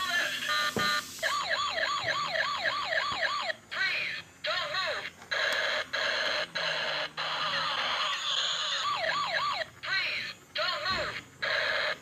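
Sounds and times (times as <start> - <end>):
toy siren warbling wails: 0.0 - 12.0.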